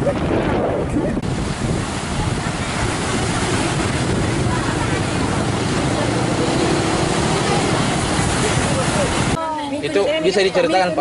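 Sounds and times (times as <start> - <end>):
strong wind on microphone: 0.0 - 9.4
choppy sea: 0.0 - 11.0.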